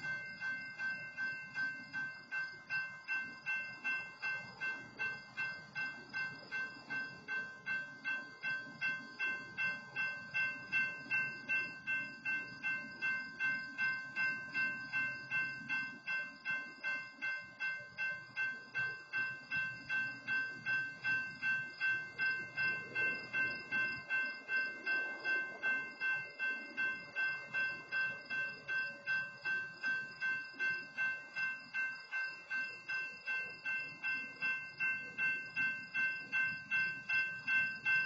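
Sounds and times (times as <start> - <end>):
crossing warning bell ringing: 0.0 - 38.0.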